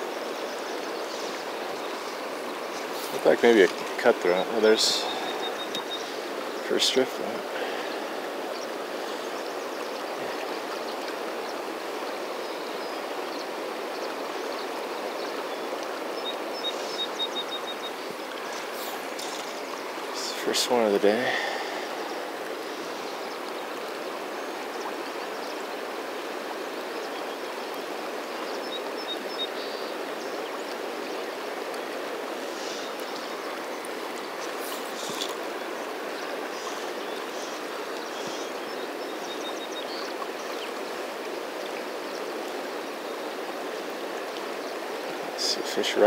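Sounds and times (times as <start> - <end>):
river current rushing: 0.0 - 46.0.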